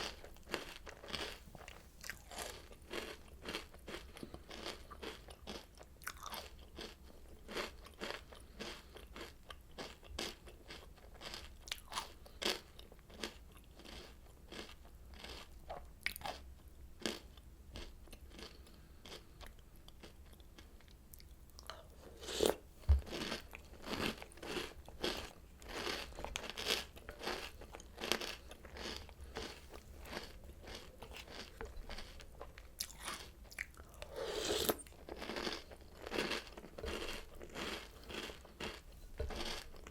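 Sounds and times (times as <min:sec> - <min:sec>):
crunching and chewing cereal: 0:00.0 - 0:39.9.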